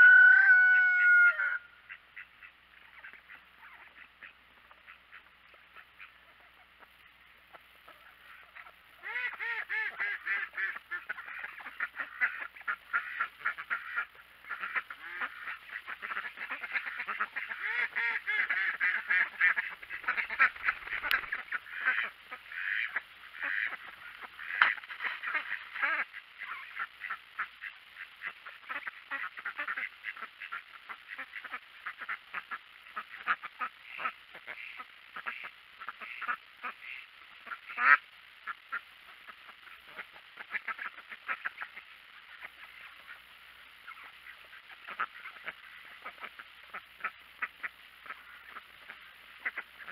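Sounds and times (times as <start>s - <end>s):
ducks quacking and chattering: 0.0s - 49.9s.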